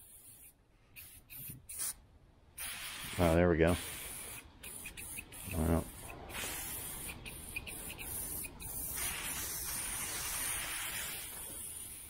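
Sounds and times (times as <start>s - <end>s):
aerosol spray can hissing: 0.0s - 2.0s, 2.6s - 12.0s.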